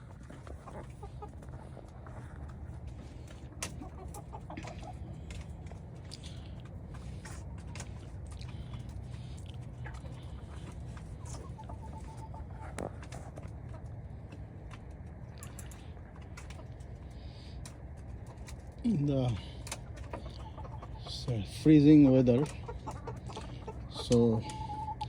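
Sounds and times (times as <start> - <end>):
hens clucking softly: 0.0 - 25.0
steady low hum: 0.0 - 25.0.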